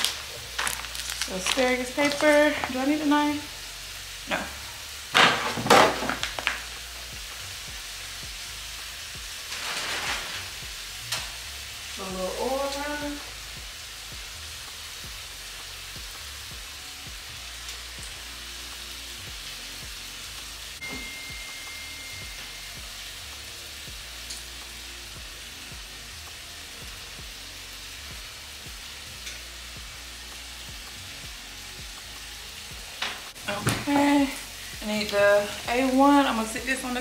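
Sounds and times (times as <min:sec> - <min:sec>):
steaks sizzling in a pan: 0:00.0 - 0:37.0.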